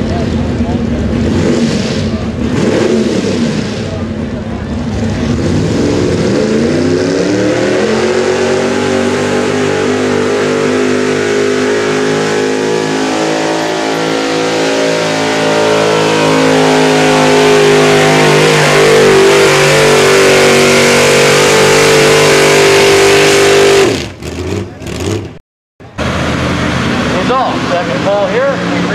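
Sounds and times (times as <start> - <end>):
truck engine at full throttle: 0.0 - 28.9.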